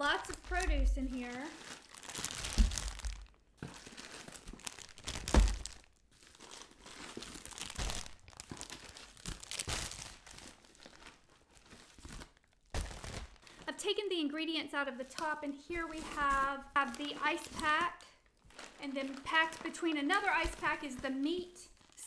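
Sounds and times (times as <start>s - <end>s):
plastic crinkling and rustling: 0.0s - 13.9s, 14.8s - 22.0s.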